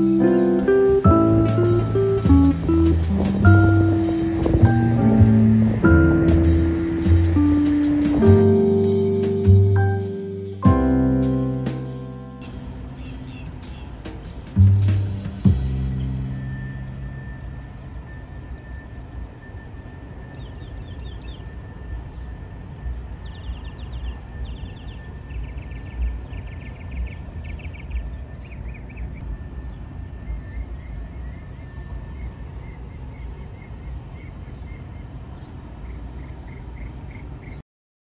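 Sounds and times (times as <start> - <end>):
faint high whine: 0.0 - 26.3, 29.2 - 37.3
steady low rumble: 0.0 - 37.6.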